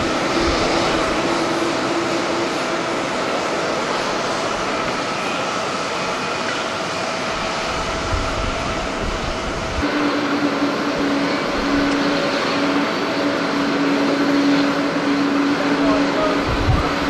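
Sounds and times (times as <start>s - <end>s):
jet engine drone: 0.0s - 17.0s.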